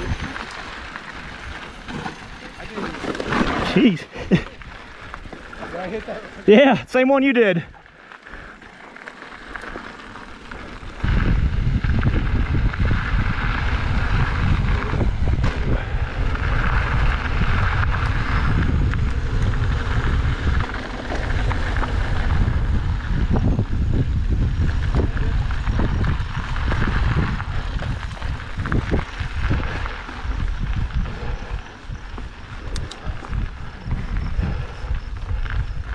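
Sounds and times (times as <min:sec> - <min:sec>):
wind buffeting microphone: 0:00.0 - 0:06.9, 0:09.4 - 0:35.9
bike tyres rumbling on dirt: 0:00.0 - 0:35.9.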